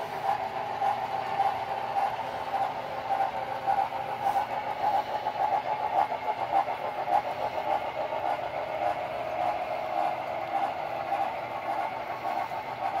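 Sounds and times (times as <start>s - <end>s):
model trains running on track: 0.0s - 13.0s.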